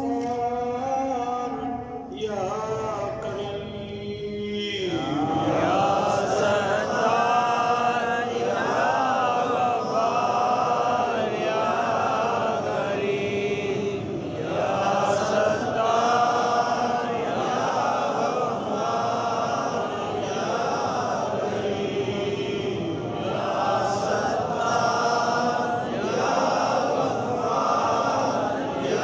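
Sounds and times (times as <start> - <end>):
man chanting: 0.0 - 29.0.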